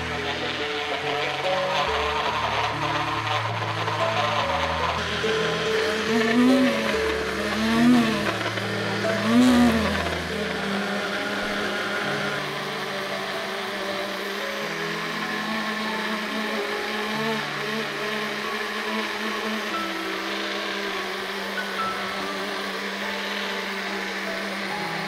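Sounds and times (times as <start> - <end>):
small motor blender whirring: 0.0 - 25.0.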